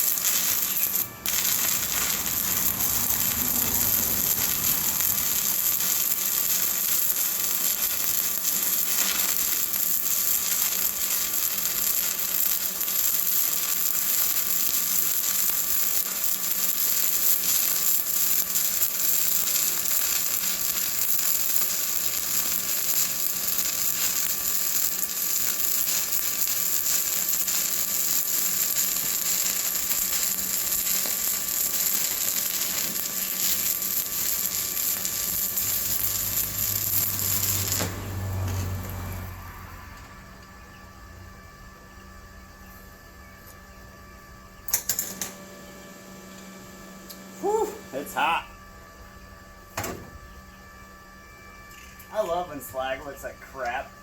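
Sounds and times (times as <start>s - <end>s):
welding arc crackling: 0.0s - 40.5s, 44.7s - 45.4s, 47.0s - 48.5s, 51.8s - 53.9s.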